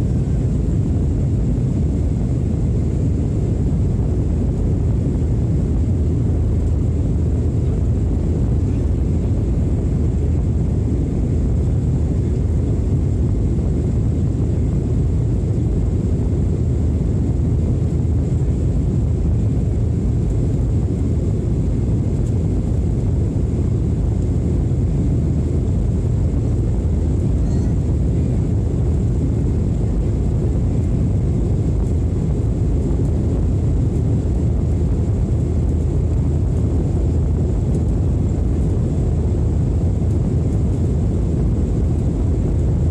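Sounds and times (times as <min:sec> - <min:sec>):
airliner engines droning: 0:00.0 - 0:42.9.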